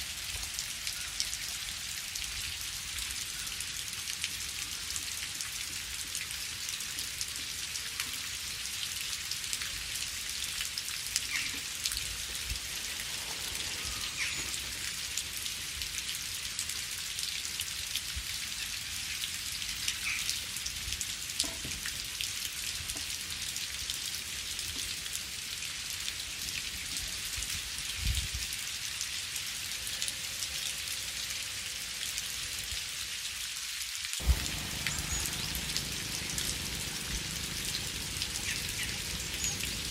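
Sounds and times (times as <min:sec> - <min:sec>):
heavier water drip: 0:00.0 - 0:29.6, 0:34.0 - 0:39.9
steady rain: 0:00.0 - 0:39.9.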